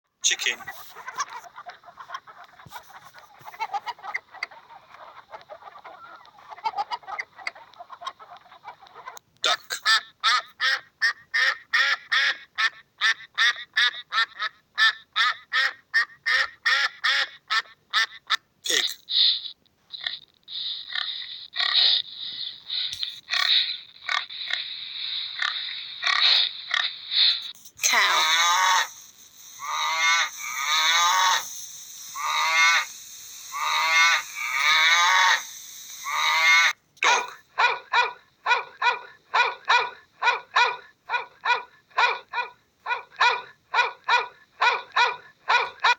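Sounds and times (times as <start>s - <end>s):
duck quacking: 0.4s - 45.7s.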